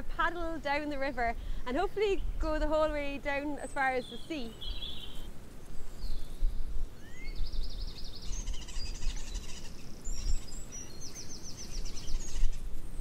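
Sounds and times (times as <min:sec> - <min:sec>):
birds singing and trilling: 0:00.0 - 0:13.0.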